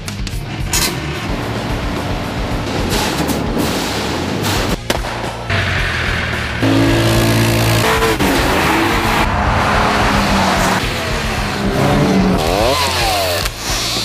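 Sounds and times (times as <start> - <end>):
car engine revving: 0.4 - 3.6, 5.5 - 14.0.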